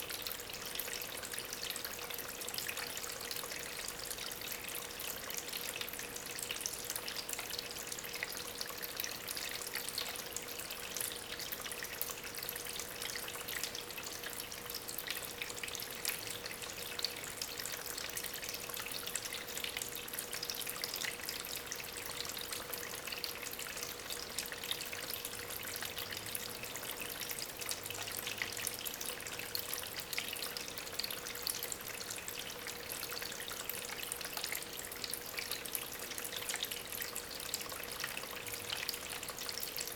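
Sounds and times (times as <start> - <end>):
faint pump hum: 0.0 - 39.9
water trickling over stones: 0.0 - 39.9.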